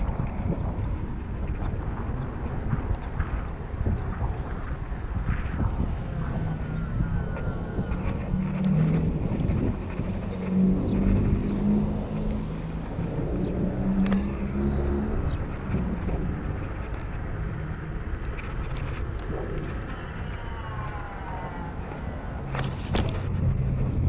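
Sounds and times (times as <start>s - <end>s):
cars passing: 0.0s - 24.0s
falling whine: 2.6s - 24.0s.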